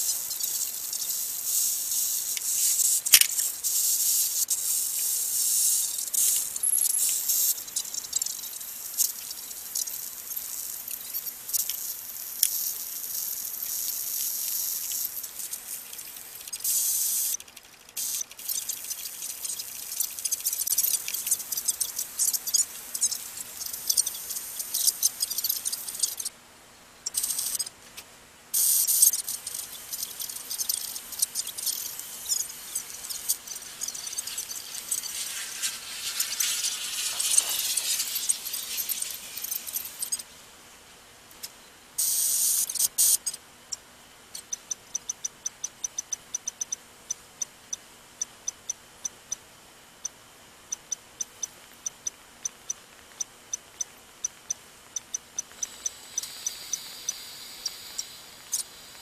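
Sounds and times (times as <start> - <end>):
radio static hiss and crackle: 0.0 - 59.0.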